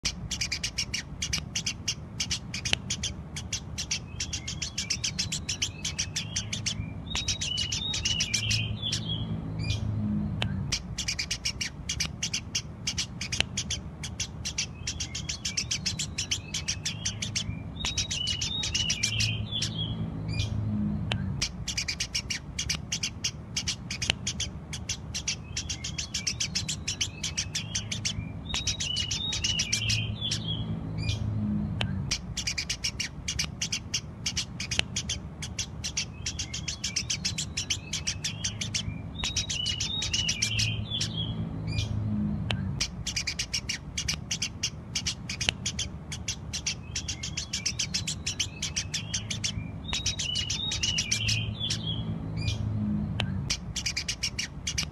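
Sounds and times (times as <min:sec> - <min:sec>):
low steady hum: 0:00.0 - 0:54.9
sparrows chirping: 0:00.0 - 0:54.9.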